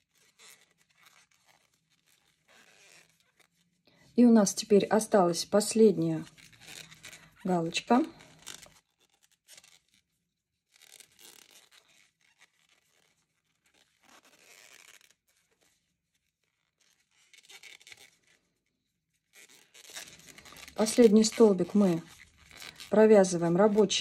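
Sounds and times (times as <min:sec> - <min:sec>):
yarn rustling with crochet hook: 0:00.0 - 0:24.0.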